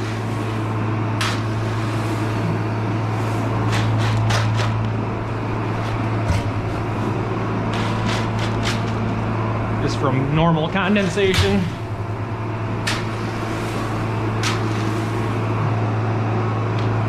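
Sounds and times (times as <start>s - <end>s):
farm machinery humming: 0.0s - 17.0s.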